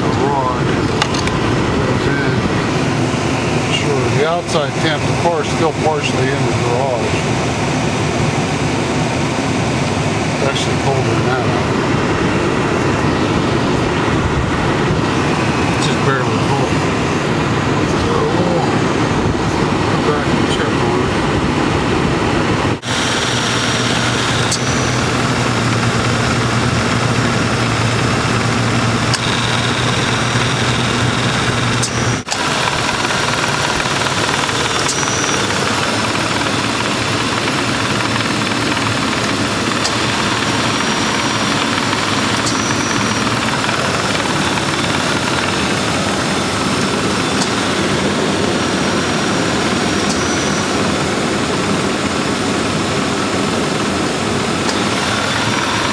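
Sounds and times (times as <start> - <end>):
car engine idling: 0.0 - 21.2, 22.7 - 55.9
air conditioning running: 0.0 - 55.9.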